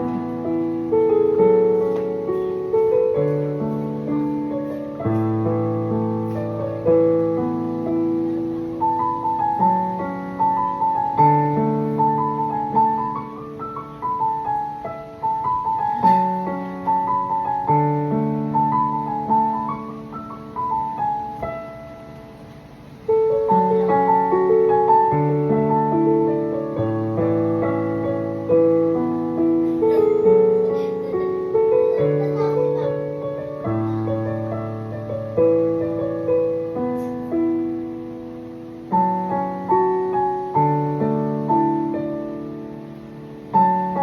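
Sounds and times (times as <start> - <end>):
gentle piano melody: 0.0 - 44.0.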